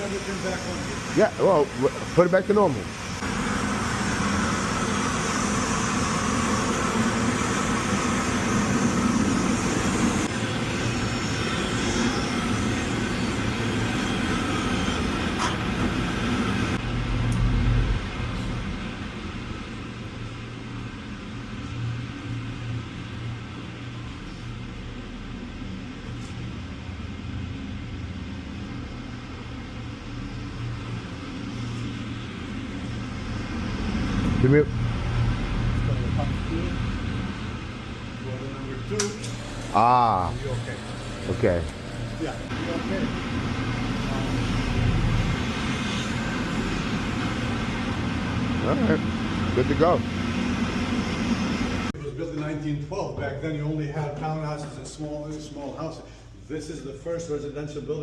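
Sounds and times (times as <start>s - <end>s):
machinery rumbling with hiss: 0.0s - 58.0s.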